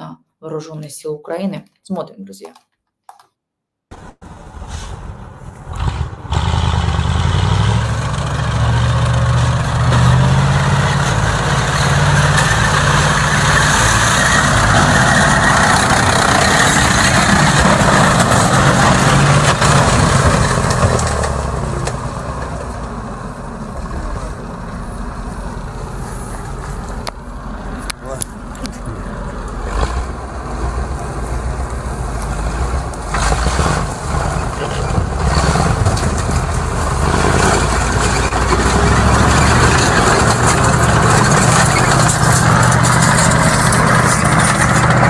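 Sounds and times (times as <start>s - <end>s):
vehicle engines running hard: 4.2s - 45.0s.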